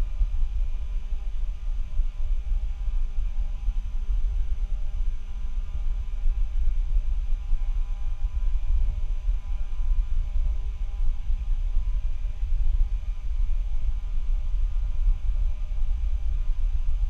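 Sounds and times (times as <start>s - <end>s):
faint whine tones: 0.0s - 17.0s
low microphone rumble: 0.0s - 17.0s.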